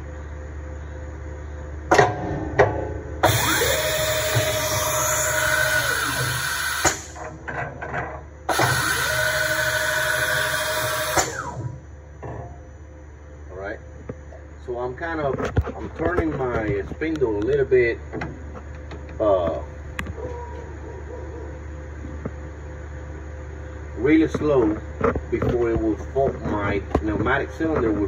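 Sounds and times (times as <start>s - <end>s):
motor whine: 0.0s - 28.0s.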